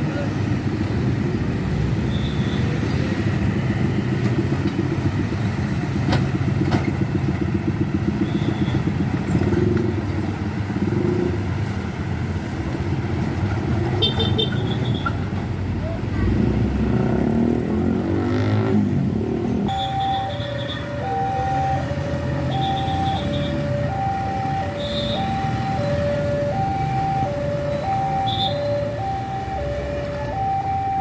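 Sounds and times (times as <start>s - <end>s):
engines of passing vehicles: 0.0s - 31.0s.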